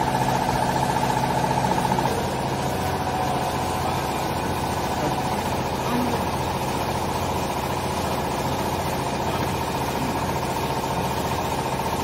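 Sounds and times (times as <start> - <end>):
machinery droning and pulsing: 0.0 - 12.0.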